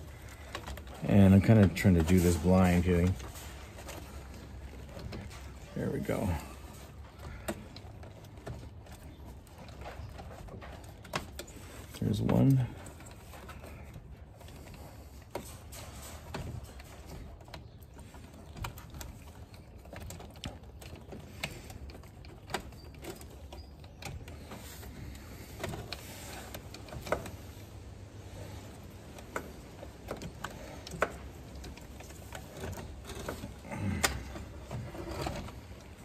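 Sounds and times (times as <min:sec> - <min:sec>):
handling clatter: 0:00.0 - 0:36.0.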